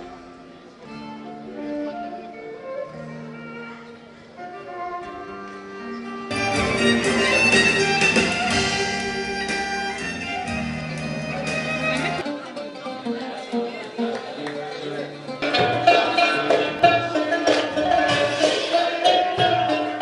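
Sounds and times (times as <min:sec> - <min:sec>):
instrumental music of held notes: 0:00.0 - 0:14.3, 0:15.2 - 0:20.0.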